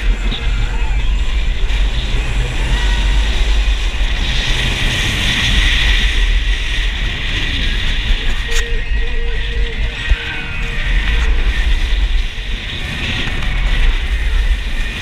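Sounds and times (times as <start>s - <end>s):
roller coaster rumbling on track: 0.0s - 15.0s
wind rush on microphone: 0.0s - 15.0s.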